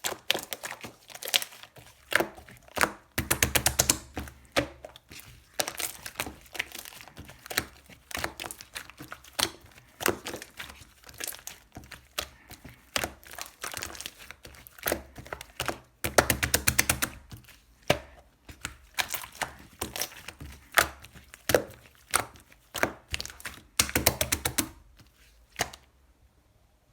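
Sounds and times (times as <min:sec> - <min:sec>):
slime squishing by hand: 0:00.0 - 0:26.0.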